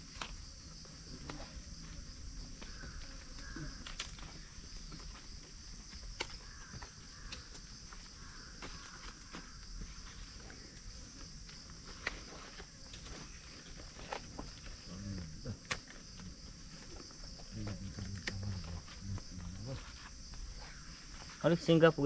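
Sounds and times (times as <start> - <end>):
leaves rustling and crinkling: 0.0 - 21.8
high insect hiss: 0.0 - 22.0.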